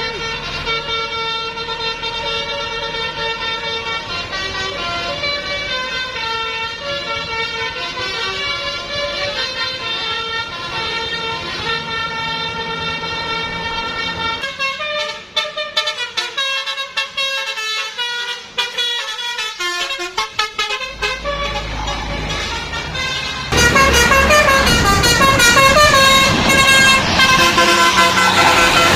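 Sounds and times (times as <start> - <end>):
multi-tone bus horn melody: 0.0 - 28.9.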